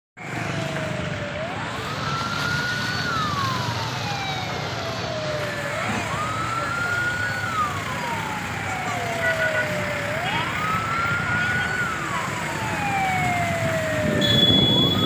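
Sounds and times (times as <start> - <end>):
low traffic rumble: 0.2 - 15.0
siren wailing: 0.2 - 15.0.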